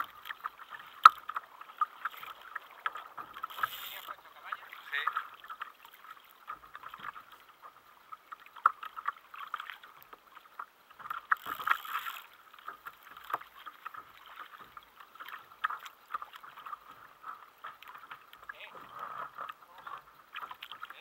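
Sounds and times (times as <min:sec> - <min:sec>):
small waves lapping against kayak: 0:00.0 - 0:21.0.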